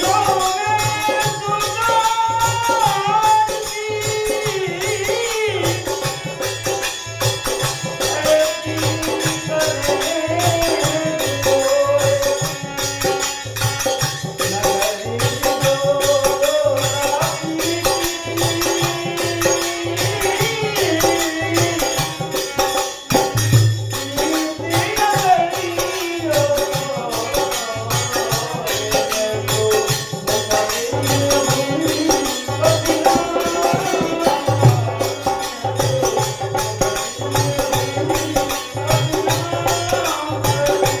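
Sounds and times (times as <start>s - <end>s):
jingling percussion: 0.0s - 41.0s
steady drum beat: 0.0s - 41.0s.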